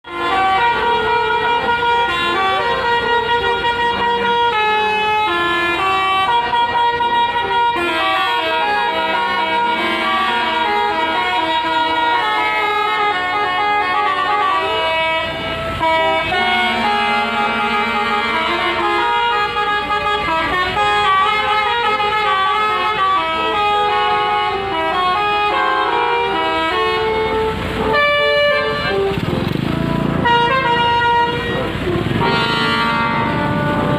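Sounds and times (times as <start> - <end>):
musical air horns playing tunes: 0.0 - 33.9.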